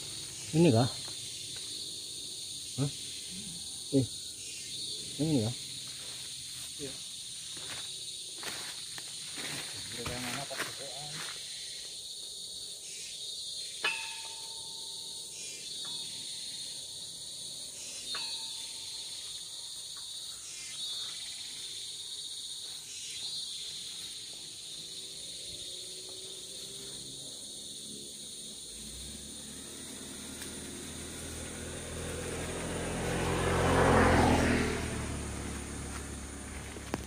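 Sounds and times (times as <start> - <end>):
forest insects chorus: 0.0 - 37.0.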